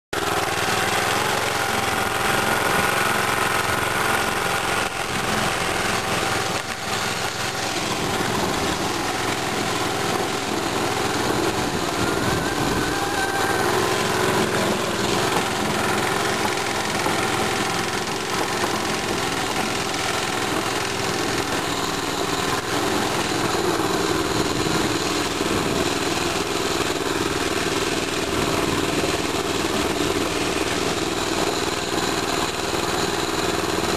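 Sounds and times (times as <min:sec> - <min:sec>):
mini bike engine running: 0:00.2 - 0:33.9.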